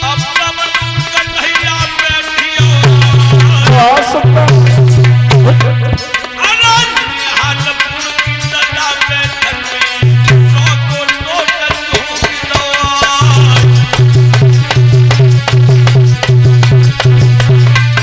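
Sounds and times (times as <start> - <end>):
hand drums: 0.0 - 18.0.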